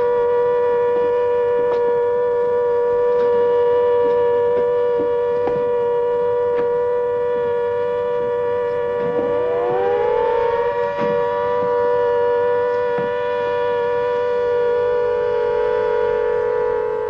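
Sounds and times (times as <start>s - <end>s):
air-raid sirens two-note chord: 0.0s - 17.0s
siren winding up: 0.0s - 17.0s.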